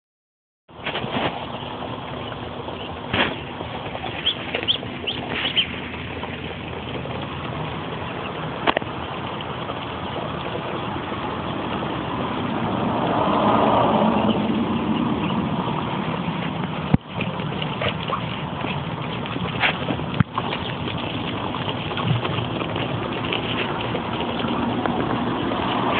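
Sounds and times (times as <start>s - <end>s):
steady rumbling background noise: 0.7s - 25.9s
ducklings peeping: 1.2s - 25.9s.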